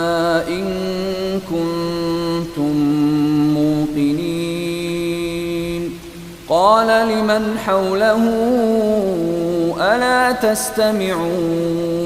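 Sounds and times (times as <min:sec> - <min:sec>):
person chanting melodic recitation: 0:00.0 - 0:12.0.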